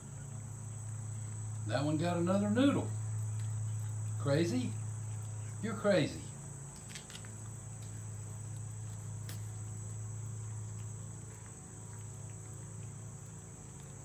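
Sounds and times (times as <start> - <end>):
crickets chirping: 0.0 - 14.0
low steady hum: 0.0 - 14.0.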